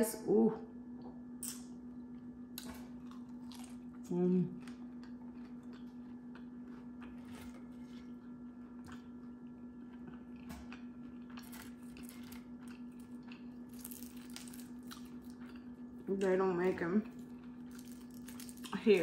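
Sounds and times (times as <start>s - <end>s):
steady low hum: 0.0s - 19.0s
crunching fried chicken: 2.6s - 19.0s.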